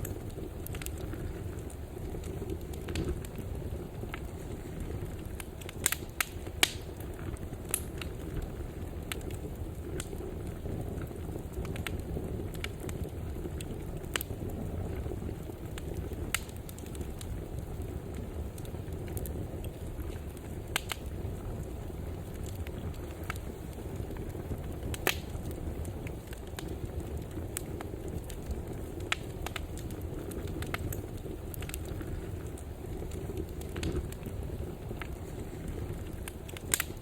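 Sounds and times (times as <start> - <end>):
fire crackles and pops: 0.0 - 37.0
fire rumbling in fireplace: 0.0 - 37.0.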